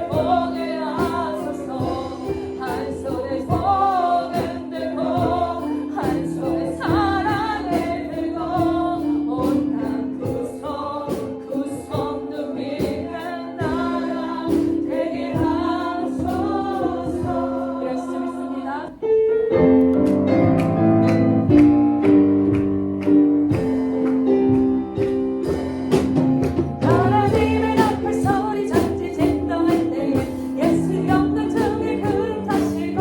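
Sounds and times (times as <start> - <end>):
choir singing worship song: 0.0 - 19.6, 20.3 - 33.0
instrumental backing: 0.0 - 33.0.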